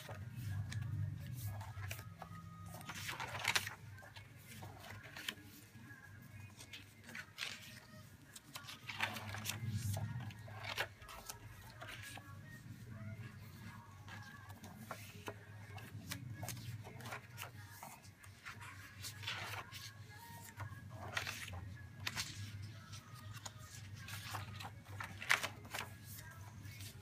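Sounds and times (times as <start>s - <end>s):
notebook pages turning: 0.0s - 27.0s.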